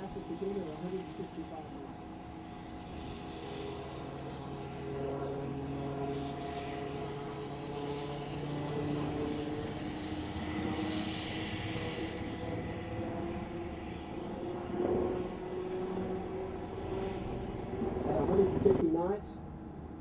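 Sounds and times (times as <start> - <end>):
helicopter droning hum: 0.0 - 20.0.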